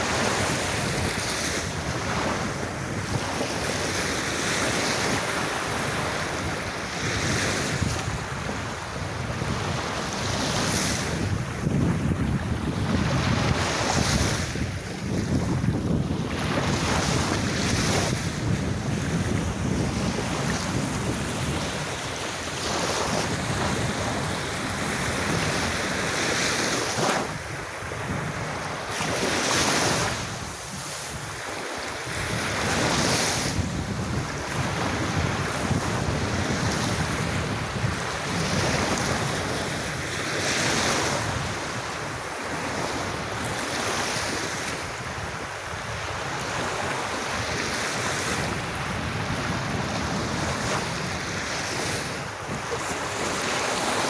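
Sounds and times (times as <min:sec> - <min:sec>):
sea waves washing onto beach: 0:00.0 - 0:54.0
wind on microphone: 0:00.0 - 0:54.0.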